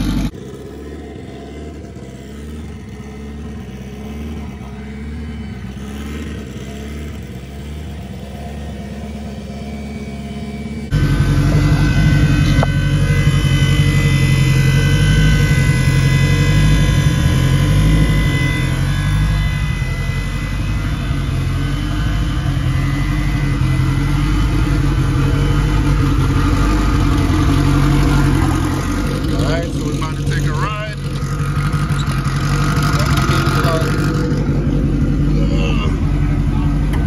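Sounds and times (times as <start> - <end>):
turbocharged car engine idling: 0.0 - 37.0.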